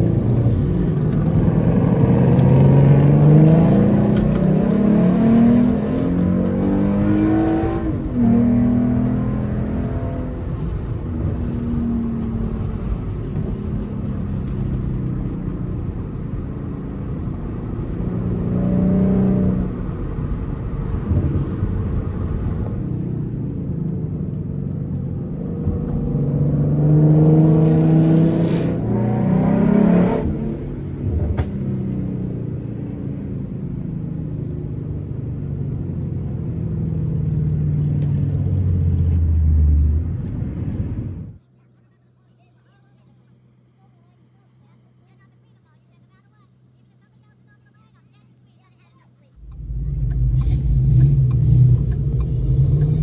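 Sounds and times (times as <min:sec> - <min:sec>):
car engine accelerating: 0:00.0 - 0:41.4, 0:49.4 - 0:53.0.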